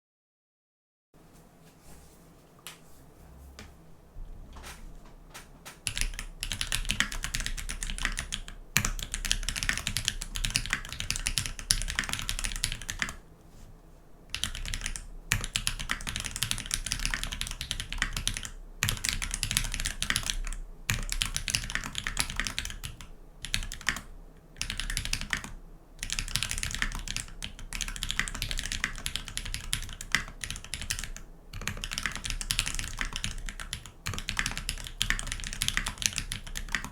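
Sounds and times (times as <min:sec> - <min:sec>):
mechanical keyboard typing: 0:05.3 - 0:13.2, 0:14.3 - 0:36.9.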